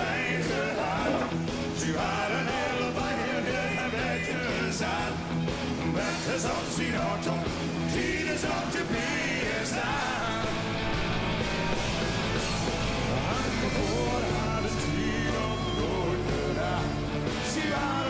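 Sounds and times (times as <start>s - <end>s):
person singing: 0.0s - 5.2s, 5.9s - 11.0s, 13.1s - 18.0s
rock and roll music: 0.0s - 18.0s.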